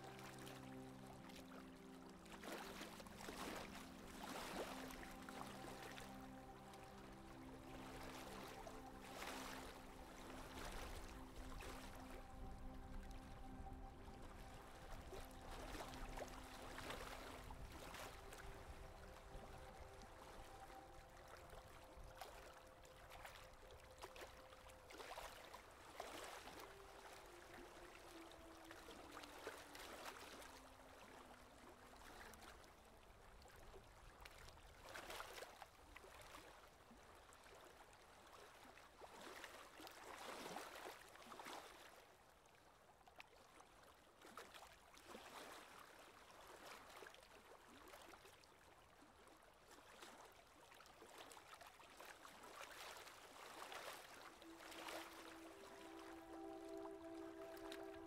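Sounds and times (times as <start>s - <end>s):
sea water splashing along a hull: 0.0s - 58.0s.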